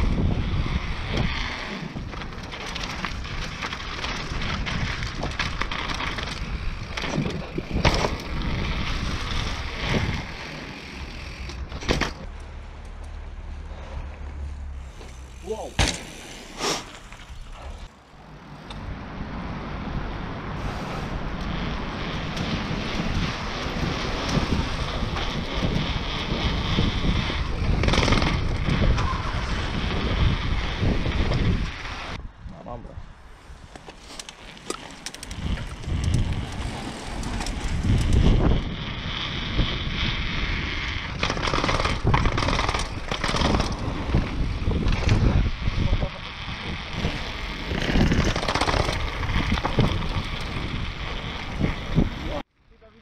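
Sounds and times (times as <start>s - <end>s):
wind buffeting microphone: 0.0s - 11.8s, 17.3s - 52.5s
bike frame and chain rattling: 0.0s - 14.0s, 21.3s - 32.2s, 33.7s - 52.4s
bike tyres on rough pavement: 0.0s - 53.0s.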